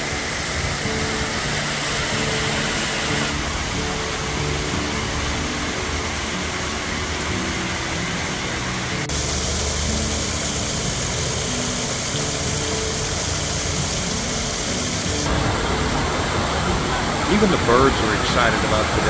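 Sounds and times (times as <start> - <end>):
fountain water splashing: 0.0 - 19.0
soft background music: 0.0 - 19.0.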